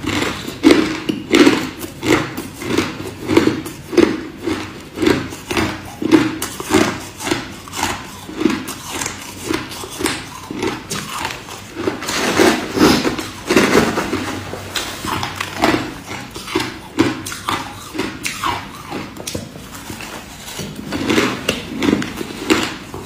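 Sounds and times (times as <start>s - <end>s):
metal spoon scraping ice: 0.0s - 19.2s
crushed ice being chewed: 0.0s - 23.0s.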